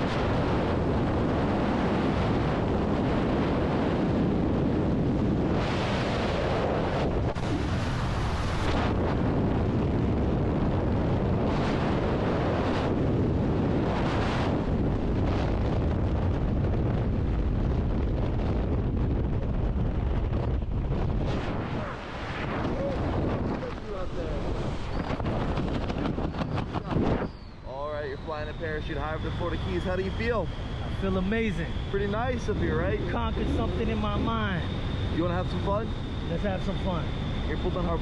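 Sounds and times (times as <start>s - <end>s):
strong wind buffeting microphone: 0.0s - 38.0s.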